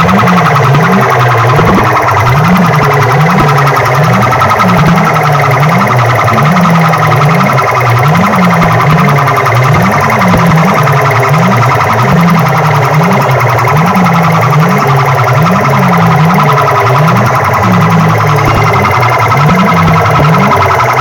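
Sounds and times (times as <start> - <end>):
steady high buzz: 0.0 - 21.0
wailing siren sound effect: 0.0 - 21.0.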